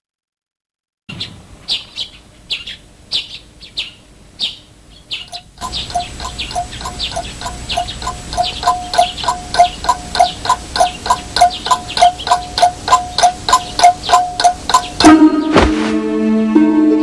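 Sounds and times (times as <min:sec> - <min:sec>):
bird peeping: 0:01.1 - 0:15.5
birds chirping: 0:01.1 - 0:15.7.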